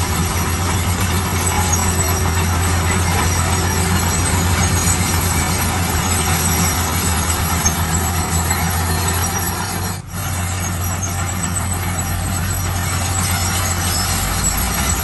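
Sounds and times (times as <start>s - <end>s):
diesel construction machinery running: 0.0s - 15.0s
mechanical clatter: 0.0s - 15.0s.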